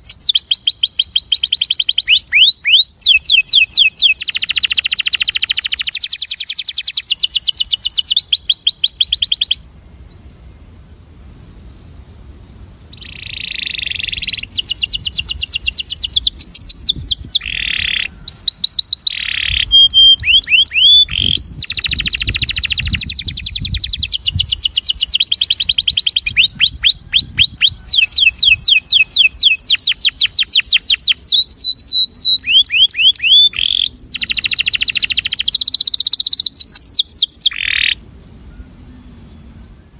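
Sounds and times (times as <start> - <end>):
canary singing trills: 0.0 - 10.3, 12.9 - 39.8.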